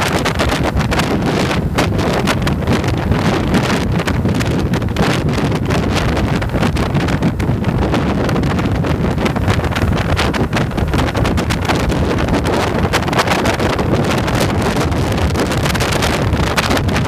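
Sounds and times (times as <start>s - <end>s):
motorcycle engine and road drone: 0.0s - 17.0s
wind buffeting microphone: 0.0s - 17.0s.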